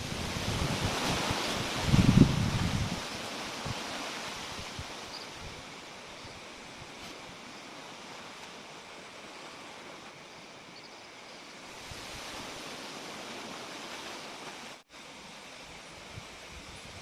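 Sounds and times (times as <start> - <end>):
steady even hiss: 0.0 - 17.0.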